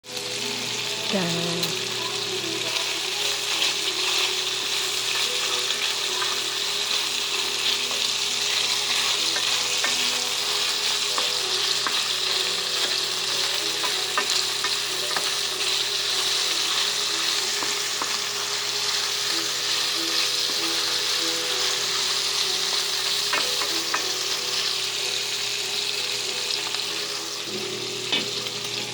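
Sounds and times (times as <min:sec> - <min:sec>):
bacon sizzling in a pan: 0:00.0 - 0:28.9.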